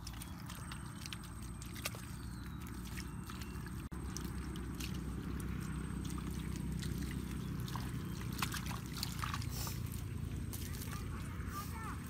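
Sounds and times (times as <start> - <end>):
hand squelching in wet mud: 0.0 - 12.0
steady low rumble: 0.0 - 12.0.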